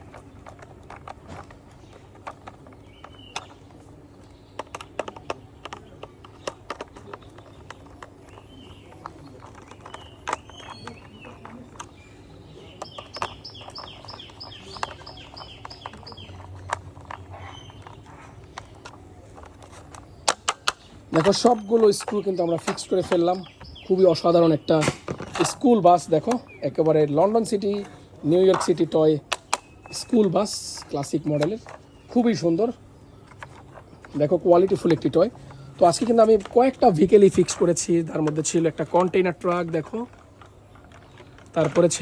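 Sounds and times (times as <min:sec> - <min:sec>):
birds chirping: 0:00.0 - 0:42.0
plastic parts handled: 0:00.0 - 0:42.0.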